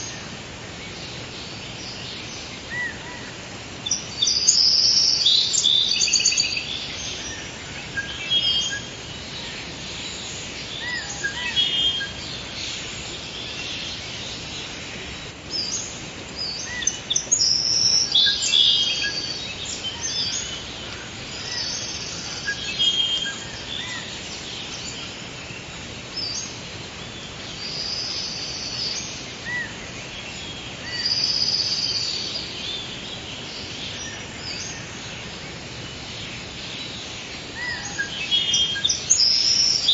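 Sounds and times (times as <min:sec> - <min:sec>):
songbirds singing and chirping: 0:00.0 - 0:39.9
steady background hiss: 0:00.0 - 0:39.9.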